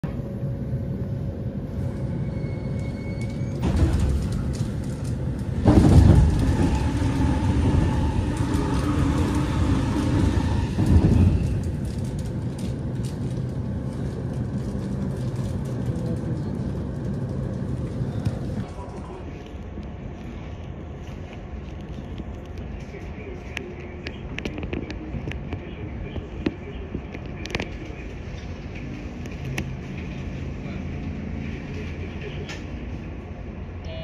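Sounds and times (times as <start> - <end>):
train wheels rumbling on rail: 1.7 - 33.7.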